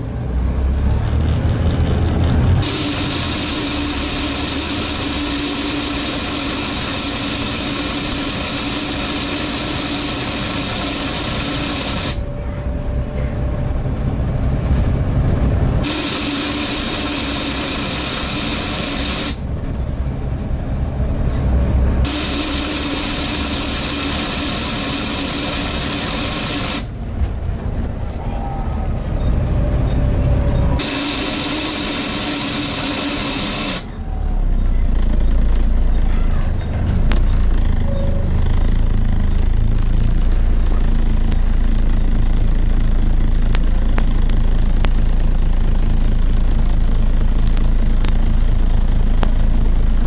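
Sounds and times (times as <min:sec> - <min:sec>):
bus rumbling: 0:00.0 - 0:50.0.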